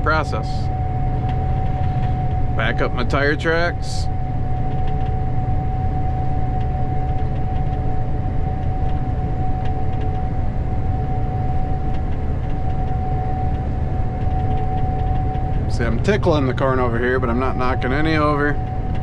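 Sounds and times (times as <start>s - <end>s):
combine engine drone: 0.0s - 19.0s
steady high whine: 0.0s - 19.0s.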